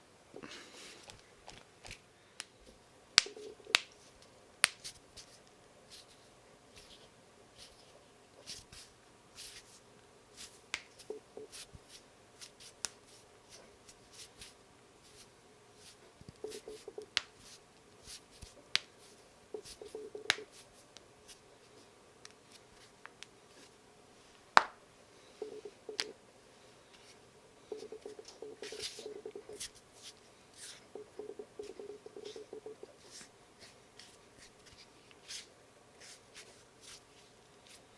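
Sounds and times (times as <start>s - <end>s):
soft rustling: 3.4s - 24.5s, 25.2s - 37.9s.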